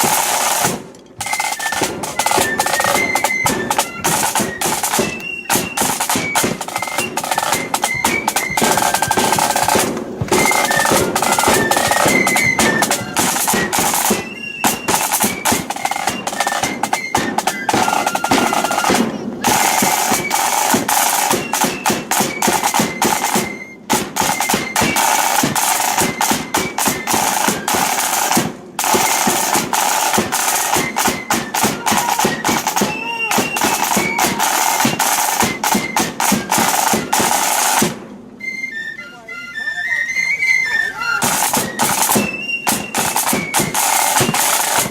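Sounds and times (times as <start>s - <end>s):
snare drum rolls: 0.0s - 38.3s, 41.2s - 44.9s
short flute notes: 1.2s - 28.2s, 30.6s - 37.8s, 38.4s - 44.9s.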